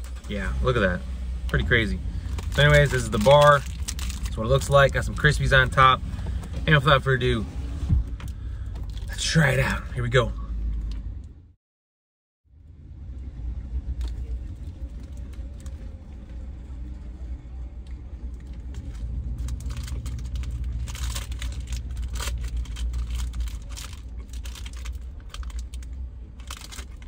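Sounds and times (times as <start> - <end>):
low car rumble: 0.0 - 11.6, 12.5 - 27.0.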